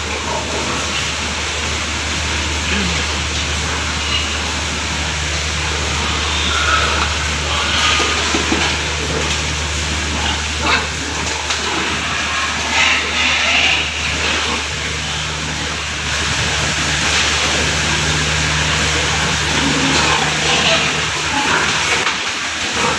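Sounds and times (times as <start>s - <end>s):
mechanical hum and hiss: 0.0s - 22.9s.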